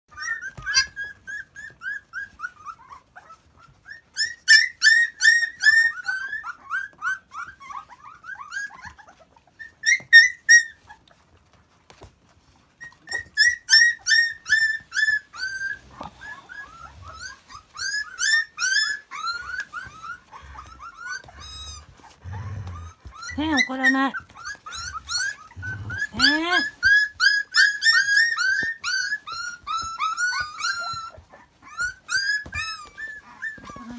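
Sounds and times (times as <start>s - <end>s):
puppies whimpering and squealing: 0.1s - 33.9s.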